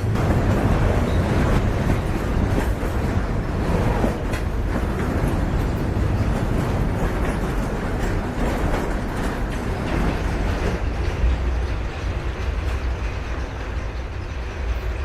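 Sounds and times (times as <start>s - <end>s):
freight train rumbling on rails: 0.0s - 15.0s
rail clicks: 0.0s - 15.0s.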